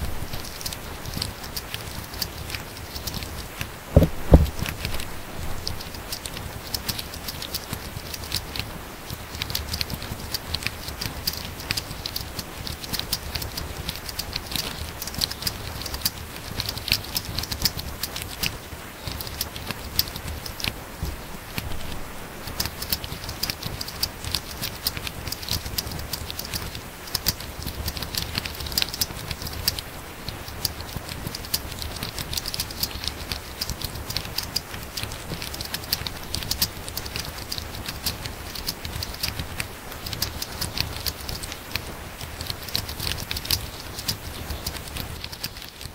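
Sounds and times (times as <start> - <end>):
fast typing on laptop keyboard: 0.2 - 45.9.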